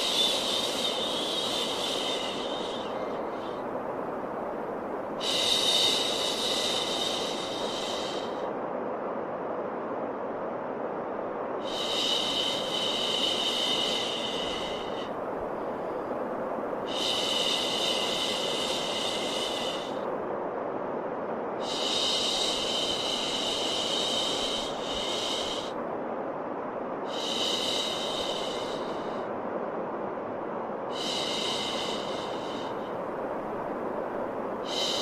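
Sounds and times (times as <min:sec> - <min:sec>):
white noise: 0:00.0 - 0:35.0.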